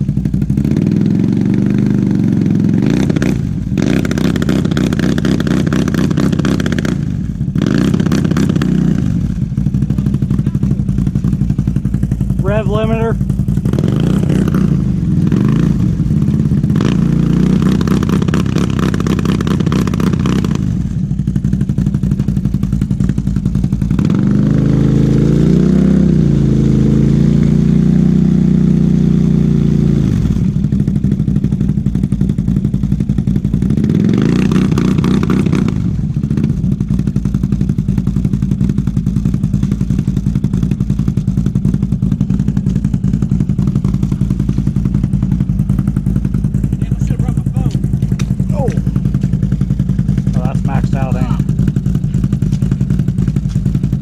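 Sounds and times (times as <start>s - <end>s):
quad engine idling and revving: 0.0s - 54.0s.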